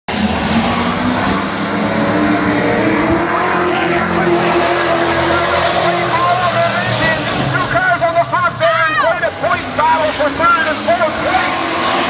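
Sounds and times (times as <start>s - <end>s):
cars passing close by: 0.1s - 12.0s
race car engines at full throttle: 0.1s - 12.0s.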